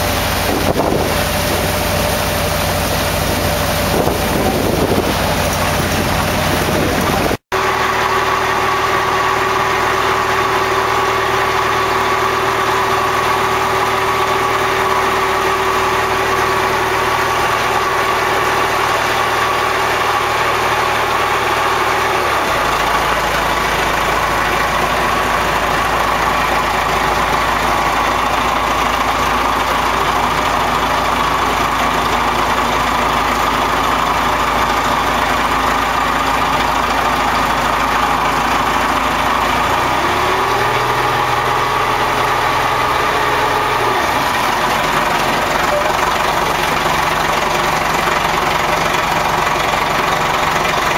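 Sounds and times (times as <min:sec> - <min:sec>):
motorboat engine humming: 0:00.0 - 0:50.9.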